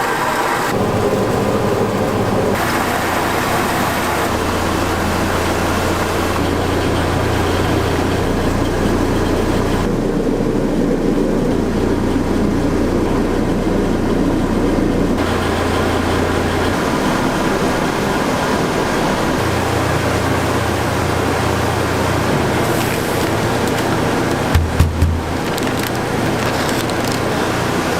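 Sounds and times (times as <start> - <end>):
constant low hum: 0.7 - 27.9.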